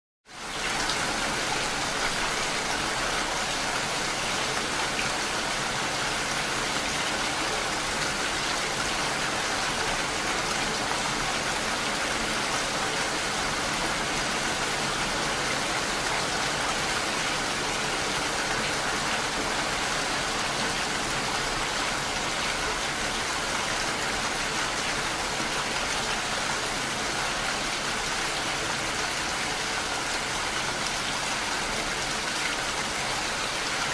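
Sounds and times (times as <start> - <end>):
steady rain falling: 0.3 - 33.9.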